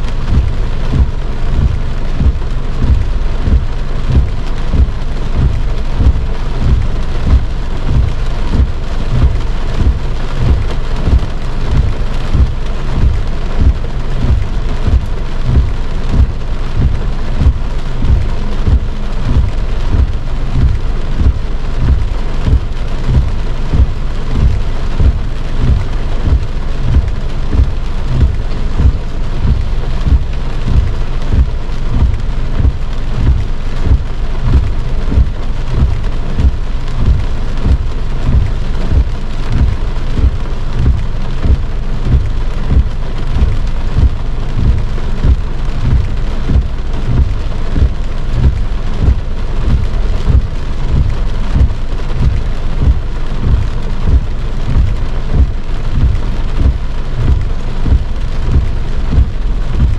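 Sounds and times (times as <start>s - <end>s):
heavy rain drumming on car roof: 0.0s - 59.9s
low thuds of heavy raindrops: 0.0s - 59.9s.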